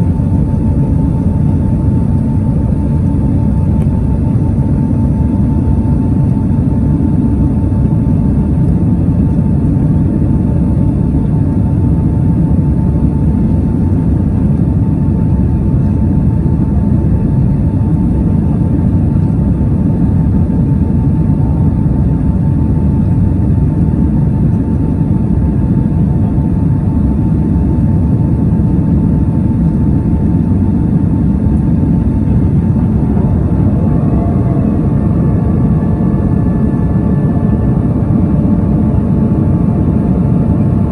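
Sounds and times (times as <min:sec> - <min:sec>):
faint steady whine: 0:00.0 - 0:40.9
jet engine rumble in cabin: 0:00.0 - 0:40.9.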